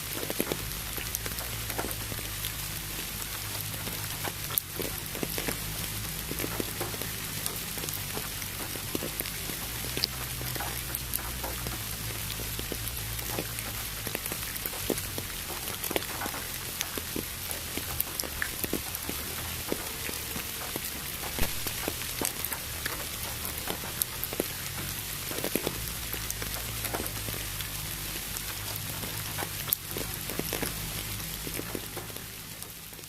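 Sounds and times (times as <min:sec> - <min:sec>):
steady hiss: 0:00.0 - 0:32.9
raindrops striking: 0:00.0 - 0:33.0.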